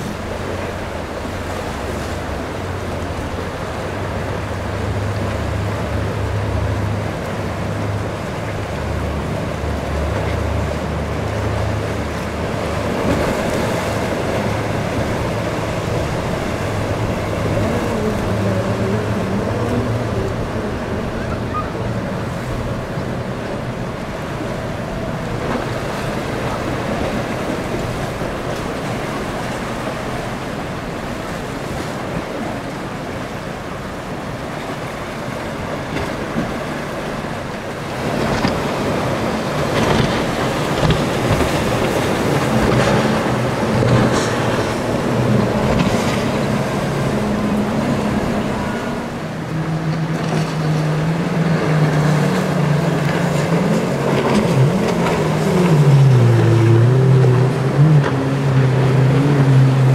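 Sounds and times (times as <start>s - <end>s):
powerboat engines running: 0.0s - 59.9s
waves washing: 0.0s - 59.9s
wind: 0.0s - 59.9s.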